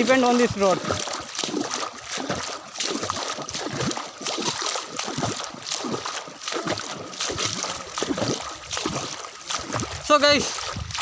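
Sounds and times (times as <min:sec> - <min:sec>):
footsteps splashing through water: 0:00.0 - 0:11.0.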